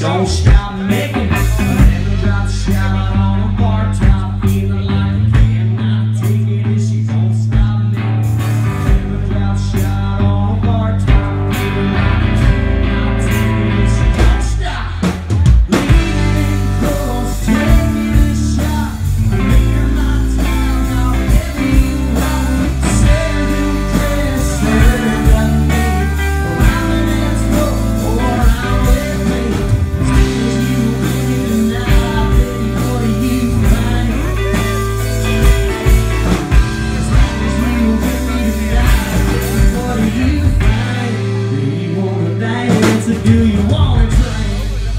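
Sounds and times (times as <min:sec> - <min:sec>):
drum kit: 0:00.0 - 0:44.9
electric bass: 0:00.0 - 0:44.9
man singing lead: 0:00.0 - 0:44.9.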